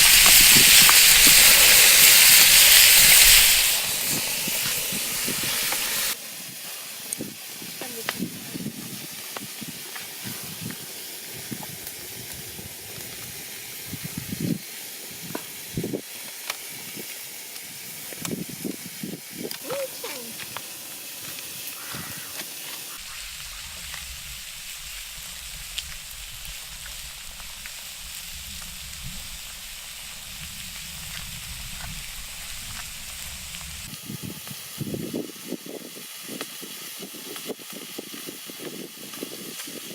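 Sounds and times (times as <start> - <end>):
kidneys sizzling on hot plate: 0.0 - 39.9.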